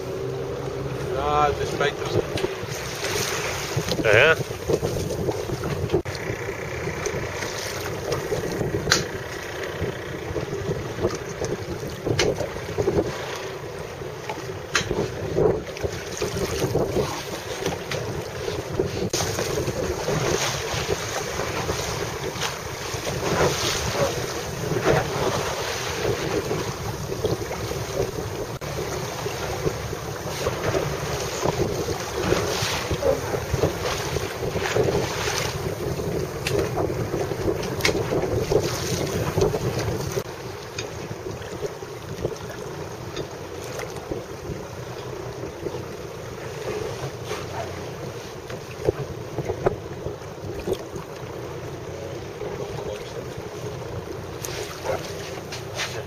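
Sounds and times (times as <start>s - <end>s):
wind on microphone: 0.0s - 51.2s
waves splashing: 0.0s - 56.0s
water slaps: 1.6s - 6.3s, 7.0s - 49.8s, 50.4s - 51.3s, 54.1s - 56.0s.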